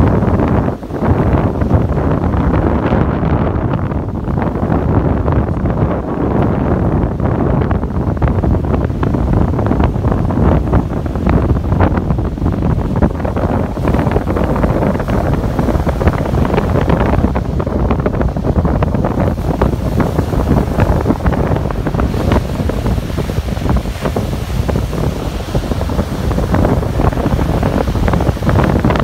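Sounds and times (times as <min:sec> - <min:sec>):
waves washing in: 0:00.0 - 0:29.0
wind buffeting microphone: 0:00.0 - 0:29.0.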